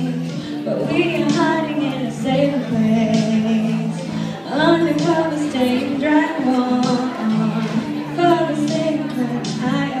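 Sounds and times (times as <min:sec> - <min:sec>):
girl singing into a microphone: 0:00.0 - 0:10.0
instrumental accompaniment: 0:00.0 - 0:10.0.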